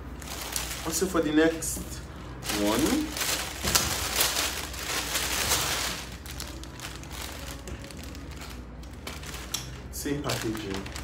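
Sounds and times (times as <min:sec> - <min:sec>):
low steady hum: 0:00.0 - 0:11.0
packaging rustling and crinkling: 0:00.0 - 0:11.0.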